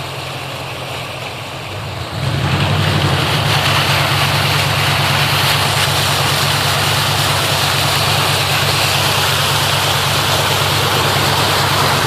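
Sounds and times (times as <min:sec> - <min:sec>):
car engine running: 0:00.0 - 0:12.0
rushing floodwater: 0:00.0 - 0:12.0.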